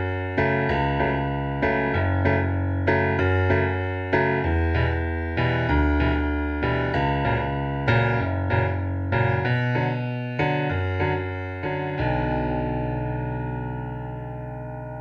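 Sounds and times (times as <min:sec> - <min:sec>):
piano chords and notes: 0:00.0 - 0:15.0.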